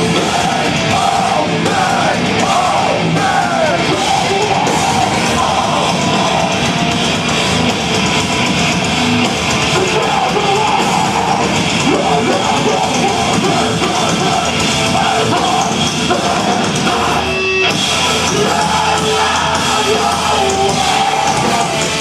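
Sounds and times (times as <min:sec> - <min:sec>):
distorted electric guitars: 0:00.0 - 0:22.0
drums: 0:00.0 - 0:22.0.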